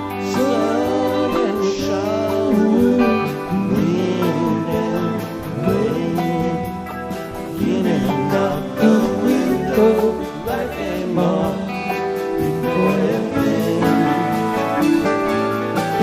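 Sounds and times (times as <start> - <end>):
electric guitar lines: 0.0 - 16.0
rock band playing: 0.0 - 16.0.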